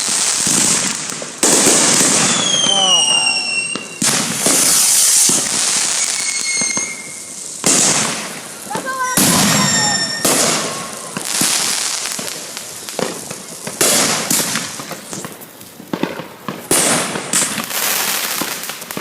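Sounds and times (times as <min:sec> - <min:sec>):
firework whistle: 0:00.0 - 0:18.8
fireworks bursting with crackle: 0:00.0 - 0:19.0.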